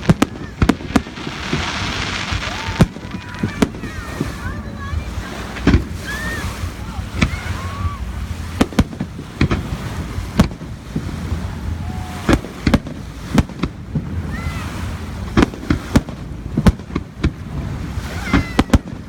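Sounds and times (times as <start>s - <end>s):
fireworks bursting: 0.0s - 6.6s, 8.5s - 14.3s, 15.2s - 19.0s.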